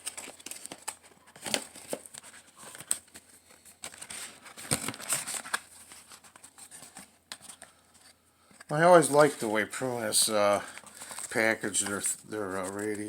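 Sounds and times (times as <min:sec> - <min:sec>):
paper packaging crinkling: 0:00.0 - 0:13.0.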